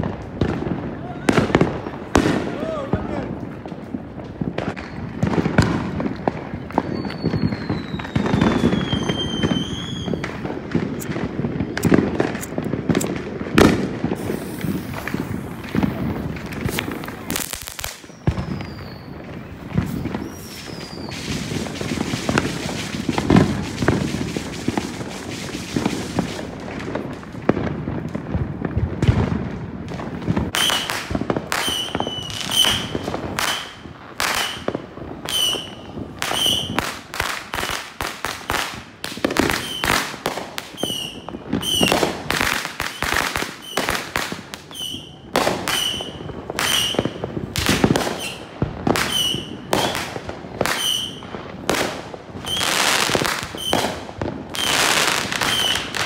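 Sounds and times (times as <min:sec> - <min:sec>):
fireworks bangs and cracks: 0:00.0 - 0:56.0.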